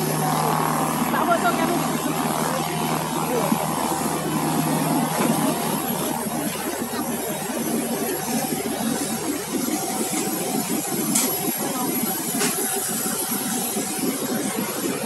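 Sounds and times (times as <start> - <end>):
engines droning: 0.0 - 15.0.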